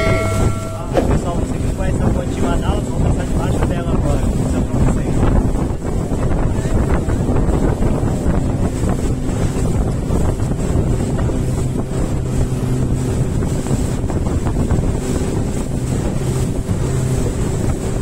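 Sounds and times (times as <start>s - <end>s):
motorboat engine running: 0.0s - 18.0s
wind buffeting microphone: 0.0s - 18.0s.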